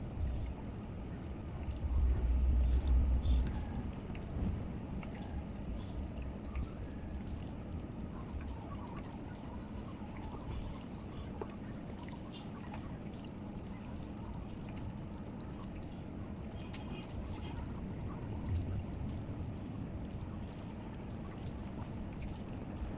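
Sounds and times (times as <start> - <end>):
aquarium water trickling: 0.0 - 22.9.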